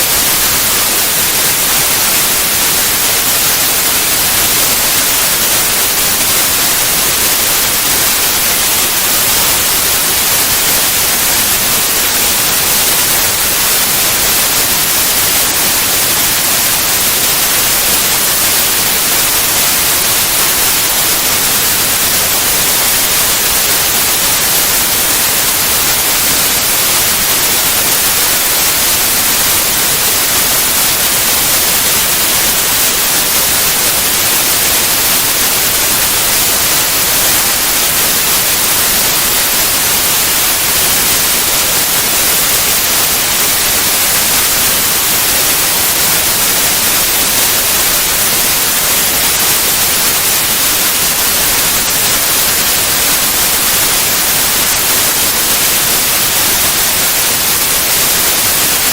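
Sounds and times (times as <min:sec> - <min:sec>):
steady white noise hiss: 0:00.0 - 0:58.9.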